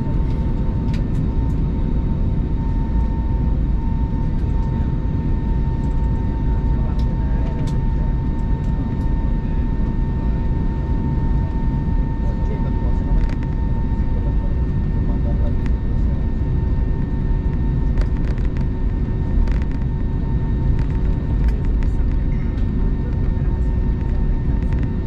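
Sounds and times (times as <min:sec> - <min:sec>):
aircraft engines rumbling: 0:00.0 - 0:25.0
steady whine: 0:00.0 - 0:25.0.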